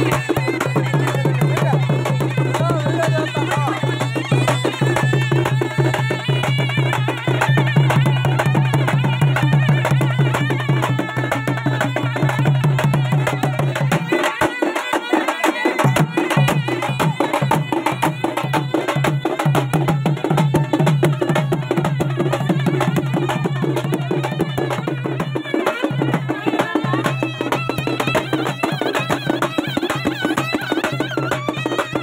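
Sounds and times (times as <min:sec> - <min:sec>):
fast folk drumming: 0:00.0 - 0:32.0.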